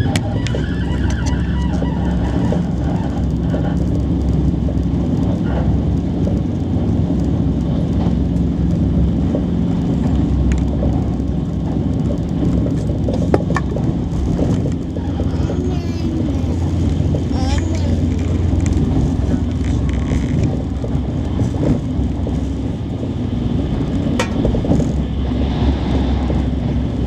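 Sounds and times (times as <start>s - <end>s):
train running low rumble: 0.0s - 27.0s.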